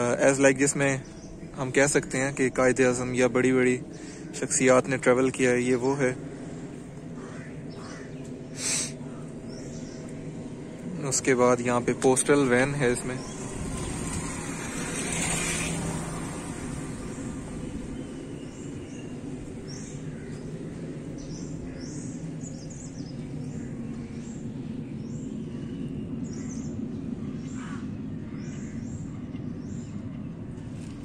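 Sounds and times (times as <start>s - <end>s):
birds chirping: 0.0s - 31.0s
low background rumble: 0.0s - 31.0s.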